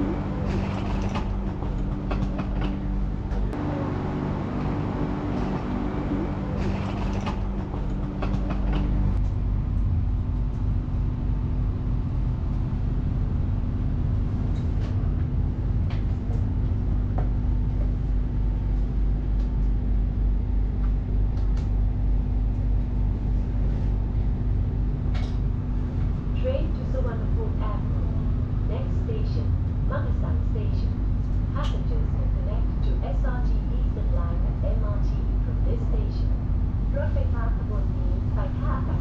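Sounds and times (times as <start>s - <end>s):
train rumble inside carriage: 0.0s - 39.0s.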